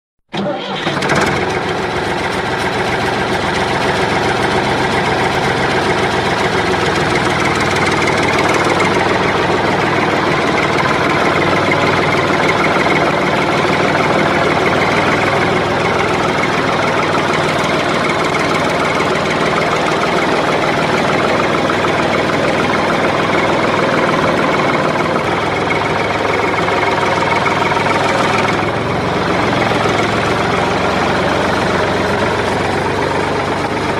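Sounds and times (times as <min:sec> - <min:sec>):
engine idling: 0:00.3 - 0:33.9.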